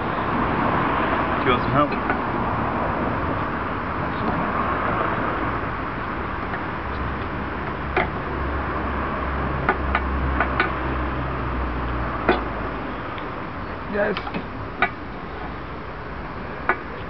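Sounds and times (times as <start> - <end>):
low rumble: 0.0 - 16.7
outdoor background noise: 0.0 - 17.0.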